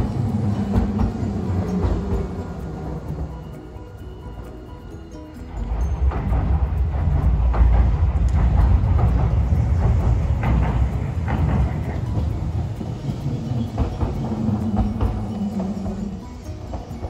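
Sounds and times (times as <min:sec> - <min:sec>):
streetcar rumble: 0:00.0 - 0:17.0
wheels clicking on rails: 0:00.0 - 0:17.0.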